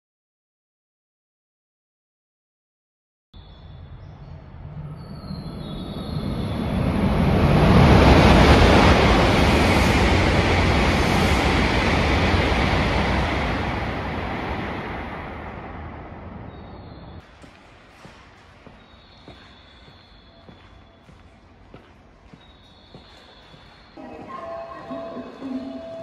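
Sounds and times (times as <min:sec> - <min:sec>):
train rushing past: 0:04.3 - 0:26.0.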